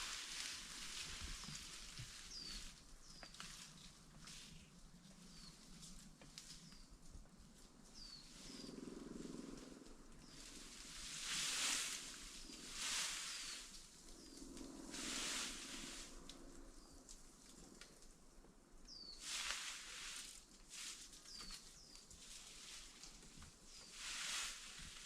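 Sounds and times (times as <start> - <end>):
rustling noise: 0.0 - 25.0.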